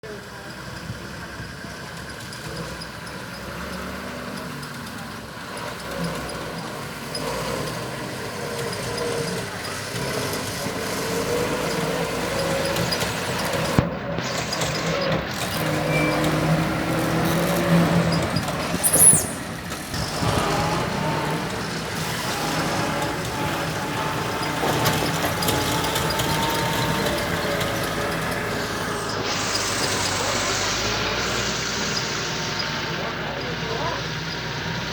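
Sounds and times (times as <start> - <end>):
heavy machinery engine running: 0.0 - 34.9.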